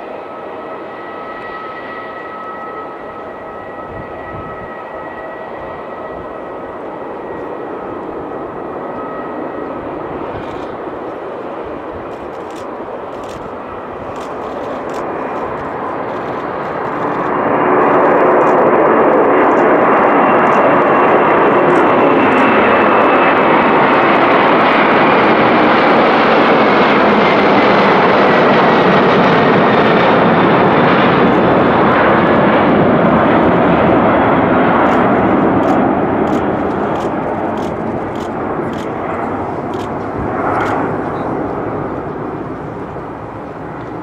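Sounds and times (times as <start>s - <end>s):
high jet whine: 0.0s - 44.0s
jet engines roaring: 0.0s - 44.0s.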